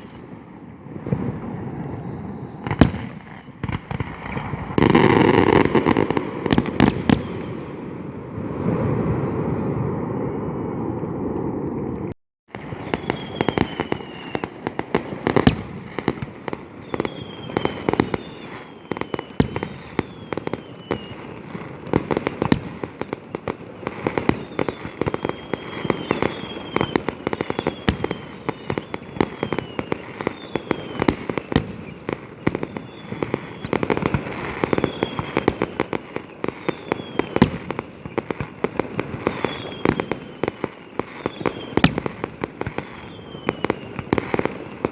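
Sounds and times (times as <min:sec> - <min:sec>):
fireworks crackling and banging: 0:00.0 - 0:44.9
fireworks falling whistles: 0:00.0 - 0:44.9.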